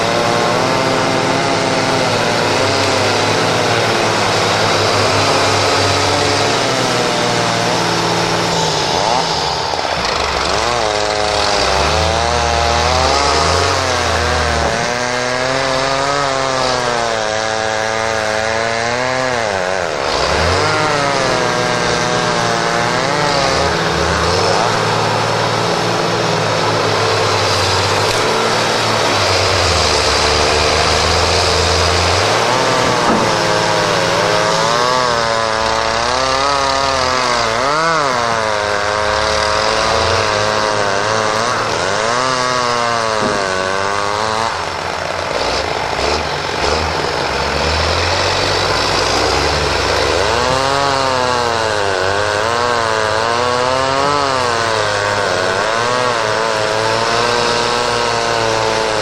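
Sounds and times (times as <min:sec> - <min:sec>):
tractor diesel engines revving: 0:00.0 - 0:59.0.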